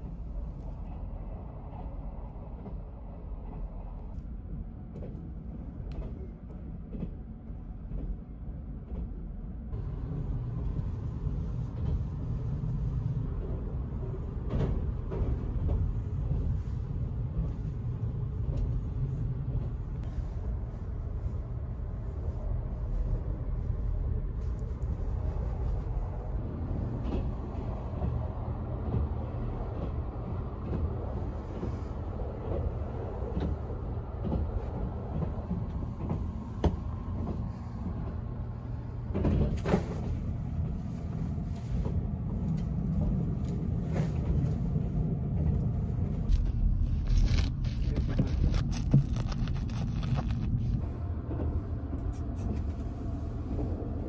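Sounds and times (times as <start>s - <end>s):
train rumble inside compartment: 0.0s - 54.0s.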